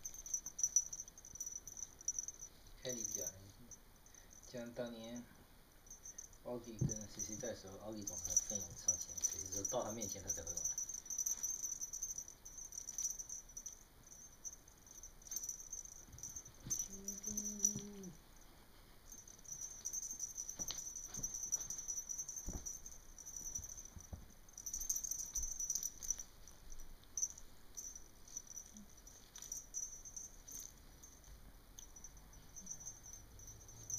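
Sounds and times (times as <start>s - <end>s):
paws and feather toy rustling: 0.0s - 5.2s, 5.8s - 33.9s.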